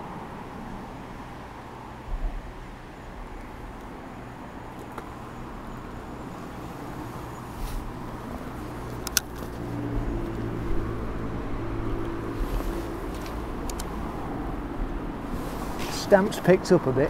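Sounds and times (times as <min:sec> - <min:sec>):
engine hum: 0:00.0 - 0:17.0
traffic rumble on bridge: 0:00.0 - 0:17.0.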